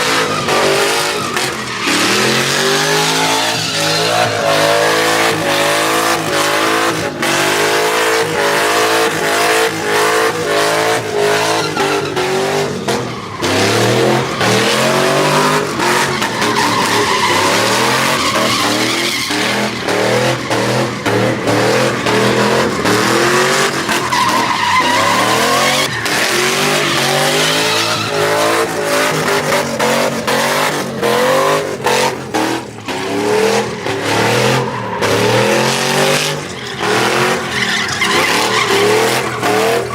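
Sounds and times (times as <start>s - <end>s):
truck engines revving: 0.0s - 39.9s
tyres spinning and squealing: 0.0s - 39.9s.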